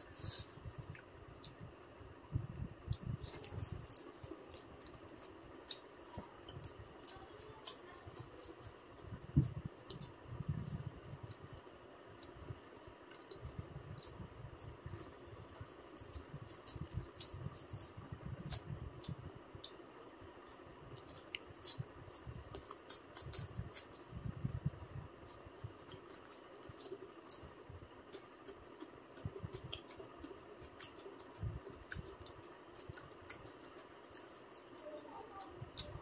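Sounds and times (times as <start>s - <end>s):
steady low hum: 0.0s - 36.0s
chewing and mouth clicks: 0.3s - 1.7s, 2.8s - 7.8s, 8.4s - 11.5s, 13.1s - 19.8s, 20.4s - 36.0s.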